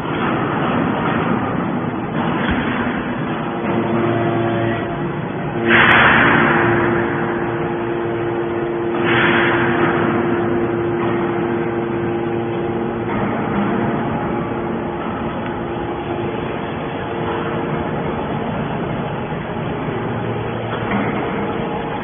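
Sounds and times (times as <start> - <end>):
hydraulic pump hum: 0.0 - 22.0.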